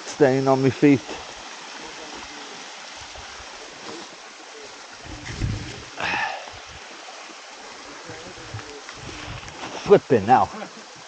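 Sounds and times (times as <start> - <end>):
stream of running water: 0.0 - 11.0.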